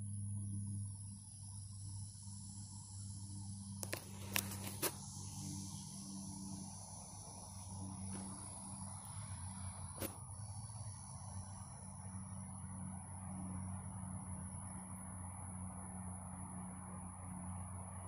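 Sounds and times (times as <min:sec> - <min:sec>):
high-pitched whine: 0:00.0 - 0:18.0
low hum: 0:00.0 - 0:18.0.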